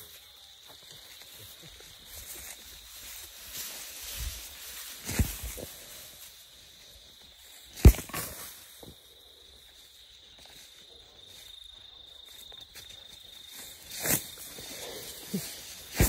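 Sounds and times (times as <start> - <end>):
high insect trill: 0.0 - 16.0.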